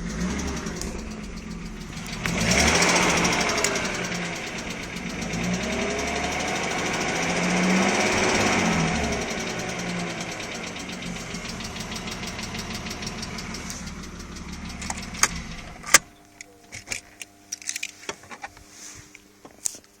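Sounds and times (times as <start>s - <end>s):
car engine idling with ticking knock: 0.0s - 17.4s
engine shutting off with click: 0.0s - 19.8s.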